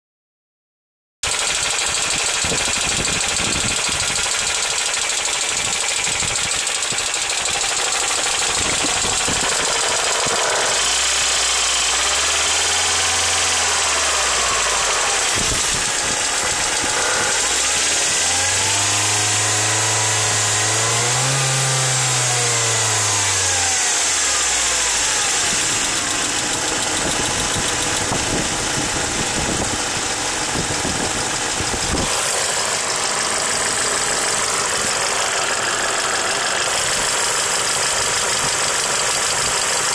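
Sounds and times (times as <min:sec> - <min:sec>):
car engine idling and revving: 0:01.2 - 0:39.9
rapid engine knocking: 0:01.2 - 0:39.9.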